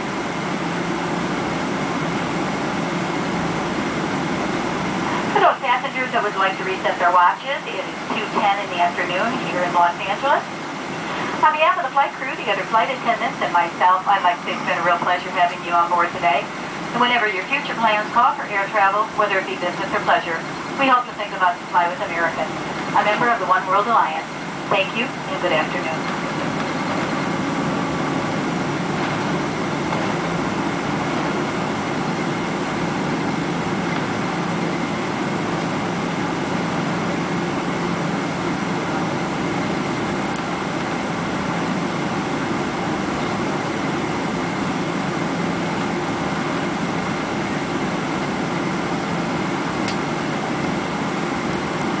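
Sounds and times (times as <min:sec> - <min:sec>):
cabin air conditioning hum: 0:00.0 - 0:52.0
faint steady whine: 0:00.0 - 0:52.0
jet engines running at low power: 0:00.0 - 0:52.0.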